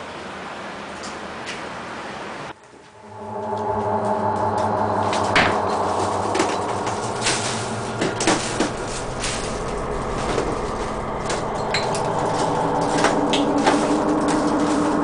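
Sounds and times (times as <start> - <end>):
steady drone: 2.5 - 15.0.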